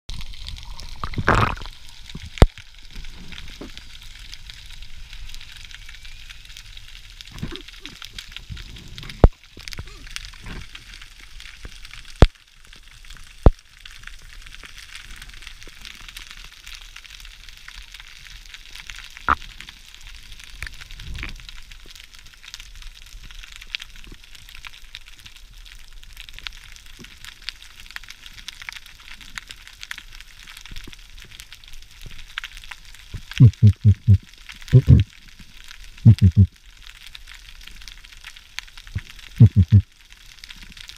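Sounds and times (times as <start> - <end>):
underwater fine crackle: 0.1 - 40.9.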